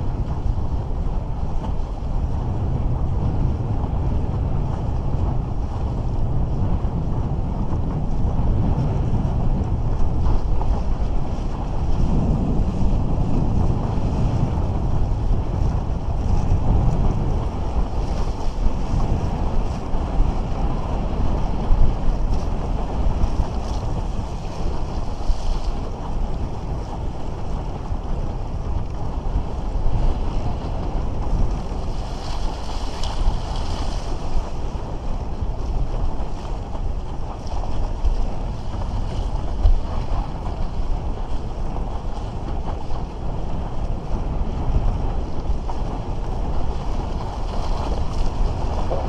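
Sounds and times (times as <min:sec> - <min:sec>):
water splashing along hull: 0:00.0 - 0:49.0
wind buffeting microphone: 0:00.0 - 0:49.0.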